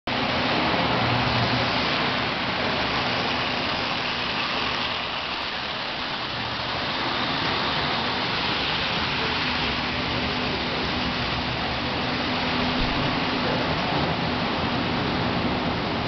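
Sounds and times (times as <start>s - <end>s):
toy trains rumbling on track: 0.1s - 16.0s.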